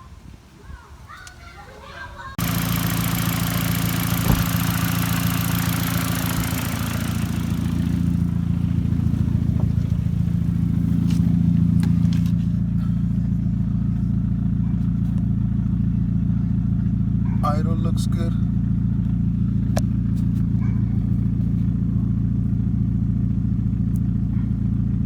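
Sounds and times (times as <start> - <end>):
car engine idling: 2.4 - 25.0.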